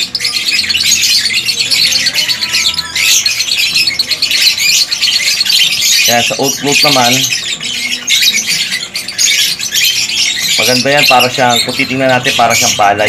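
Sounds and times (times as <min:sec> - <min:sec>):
lovebirds chattering and squawking: 0:00.0 - 0:13.0.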